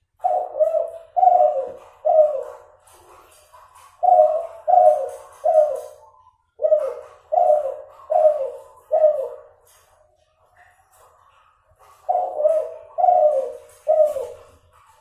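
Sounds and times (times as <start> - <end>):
dove cooing: 0.0 - 10.0, 11.8 - 15.0.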